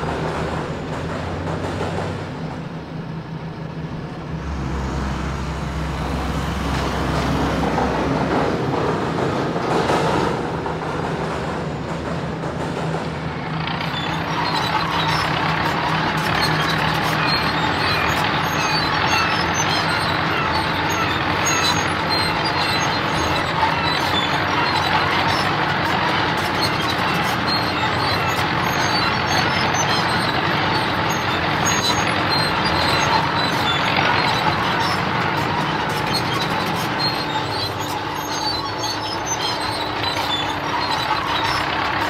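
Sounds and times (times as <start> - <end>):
road roller engine running: 0.0 - 42.0.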